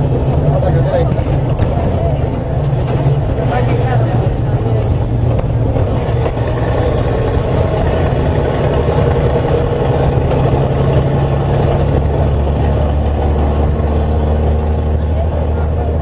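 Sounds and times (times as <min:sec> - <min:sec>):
diesel bus engine running: 0:00.0 - 0:16.0.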